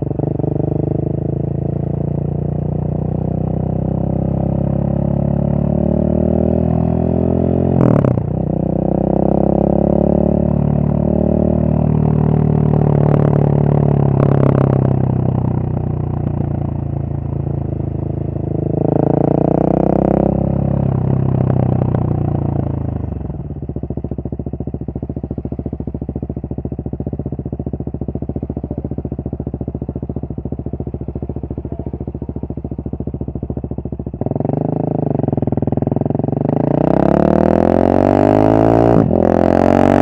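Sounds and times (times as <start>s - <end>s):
motorcycle engine revving and idling: 0.0s - 40.0s.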